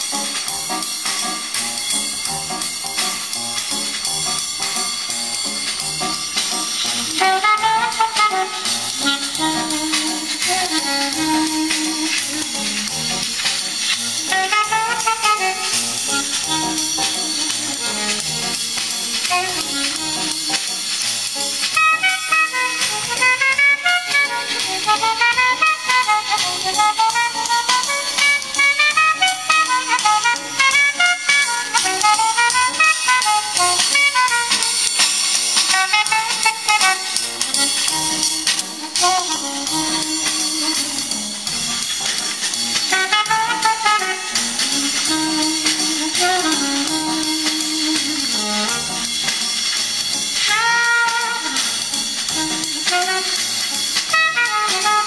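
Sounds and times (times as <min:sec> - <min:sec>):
drums: 0:00.0 - 0:55.0
jazz horn melody: 0:00.0 - 0:55.0.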